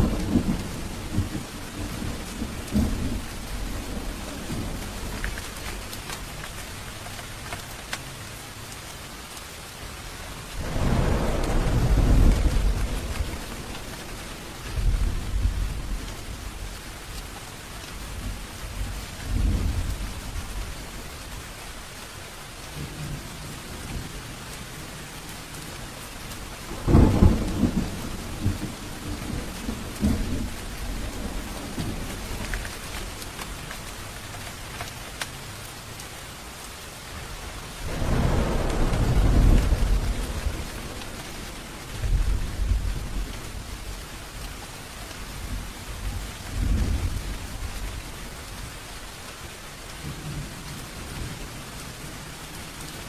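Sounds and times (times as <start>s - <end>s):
thunder rumbling and cracking: 0.0s - 7.6s, 10.4s - 21.7s, 22.7s - 35.2s, 37.0s - 49.1s
steady rain: 0.0s - 53.0s.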